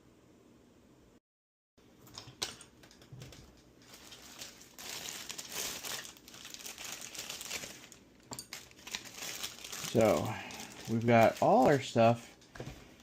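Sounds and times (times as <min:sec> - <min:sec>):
crinkling rustling handling: 0:02.2 - 0:13.0.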